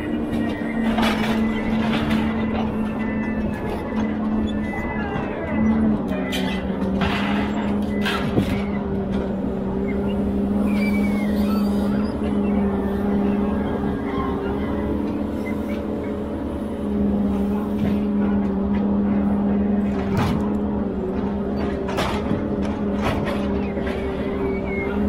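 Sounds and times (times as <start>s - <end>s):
diesel engine and hydraulics hum: 0.0s - 25.0s.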